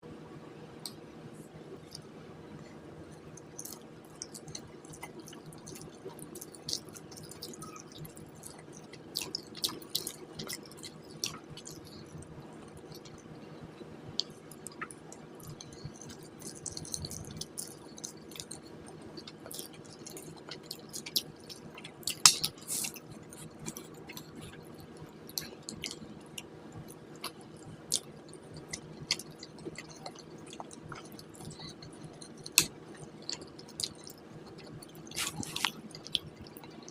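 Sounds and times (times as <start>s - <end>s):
steady low hum: 0.0s - 36.9s
chewing with wet mouth smacks: 3.1s - 36.9s.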